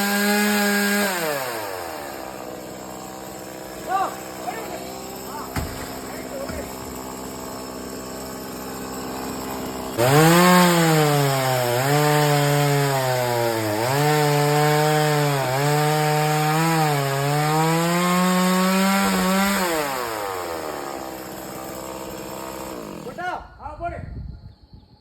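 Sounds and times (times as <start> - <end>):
chainsaw cutting wood: 0.0 - 23.3.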